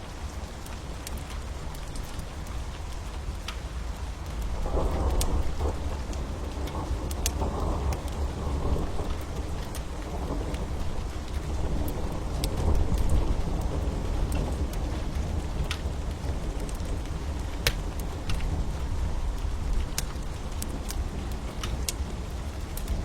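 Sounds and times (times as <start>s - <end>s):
steady rain: 0.0s - 23.0s
wood fire crackling: 0.0s - 23.0s.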